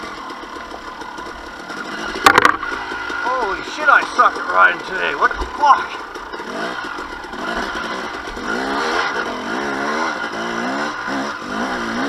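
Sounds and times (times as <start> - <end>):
two-stroke motorcycle engine revving: 0.0 - 12.0.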